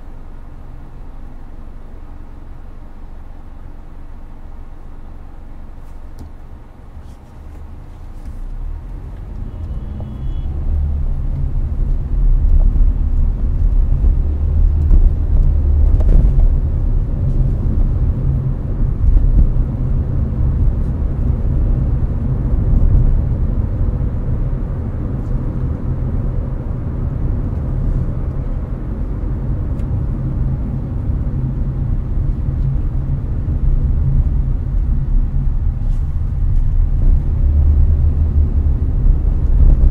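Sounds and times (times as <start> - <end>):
air-conditioning fan noise: 0.0 - 39.9
road and tyre rumble: 0.0 - 39.9.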